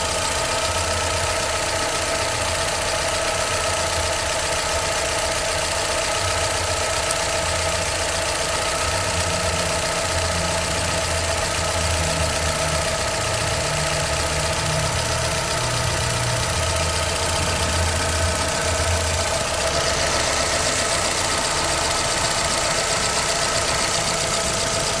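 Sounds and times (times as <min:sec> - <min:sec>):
car engine running: 0:00.0 - 0:25.0
mechanical tapping noise in engine: 0:00.6 - 0:25.0.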